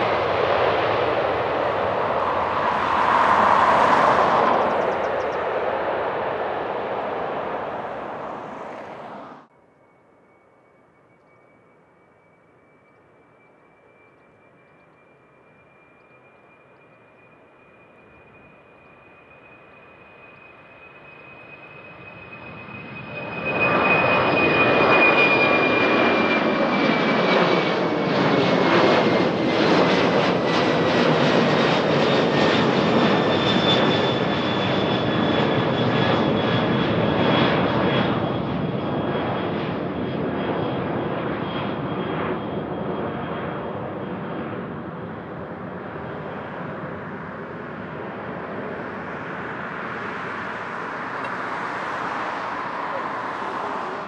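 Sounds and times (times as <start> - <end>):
airliner engines passing: 0.0 - 54.0.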